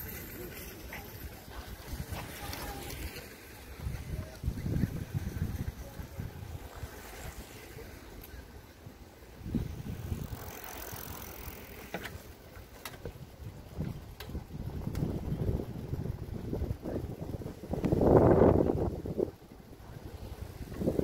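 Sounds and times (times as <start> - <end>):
wind rumbling on microphone: 1.1 - 21.0.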